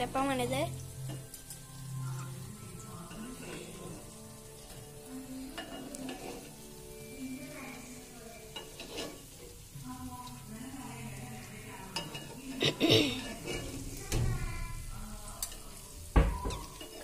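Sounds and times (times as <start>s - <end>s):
oil sizzling in a pan: 0.0s - 17.0s
metal spoon clinking and scraping pan: 0.8s - 10.4s, 11.7s - 14.2s, 15.3s - 17.0s.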